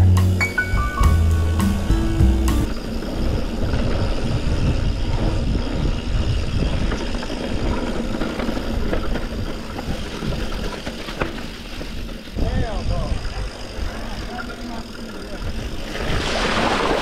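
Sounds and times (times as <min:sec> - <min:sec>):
wind buffeting microphone: 0:02.6 - 0:17.0.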